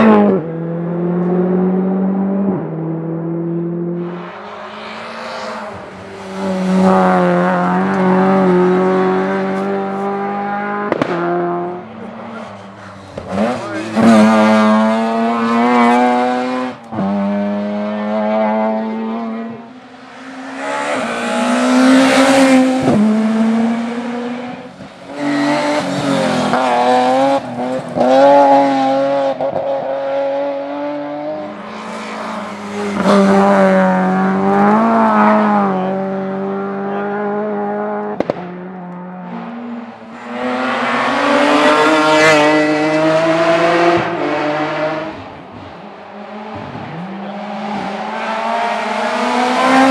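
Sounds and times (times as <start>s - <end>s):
rally car engine revving: 0.0s - 49.9s.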